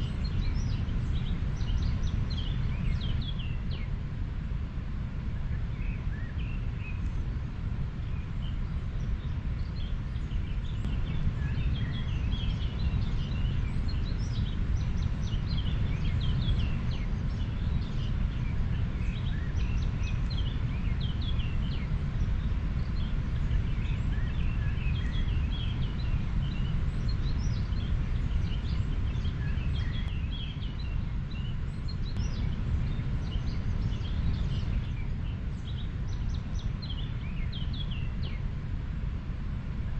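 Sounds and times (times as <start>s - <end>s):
small birds chirping: 0.0s - 4.0s, 5.4s - 38.5s.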